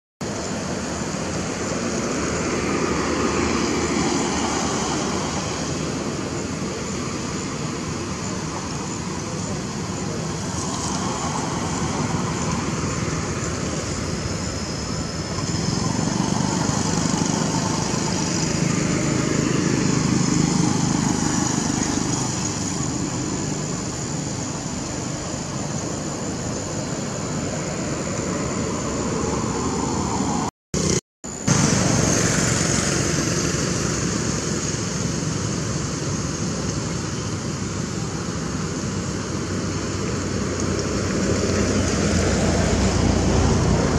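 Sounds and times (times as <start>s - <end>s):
steady rushing noise: 0.2s - 43.9s.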